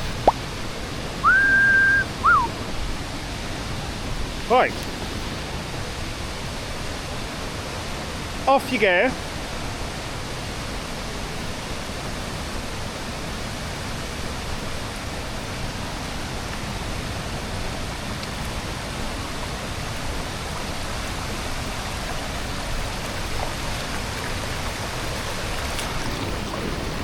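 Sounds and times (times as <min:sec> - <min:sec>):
stream water flowing: 0:00.0 - 0:27.0.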